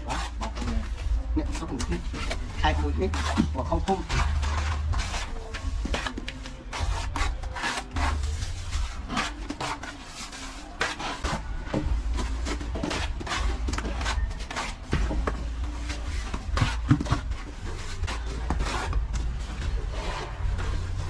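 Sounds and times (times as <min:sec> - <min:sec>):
trowel scraping plaster: 0:00.0 - 0:21.0.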